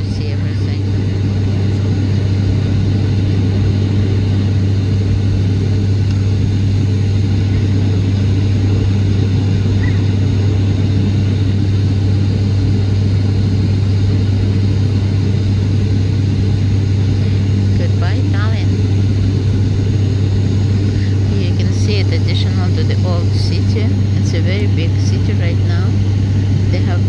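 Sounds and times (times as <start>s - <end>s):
airliner cabin engine drone: 0.0s - 27.0s
low hum: 0.0s - 27.0s.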